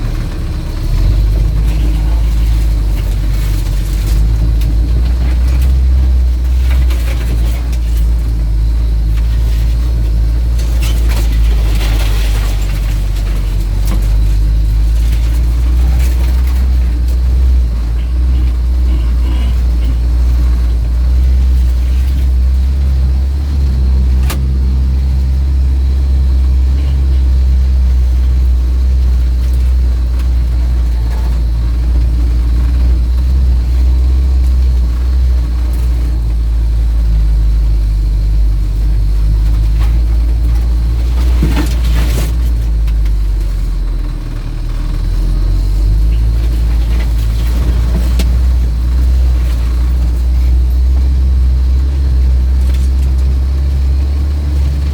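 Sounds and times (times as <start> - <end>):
vehicle engine rumble: 0.0 - 54.9.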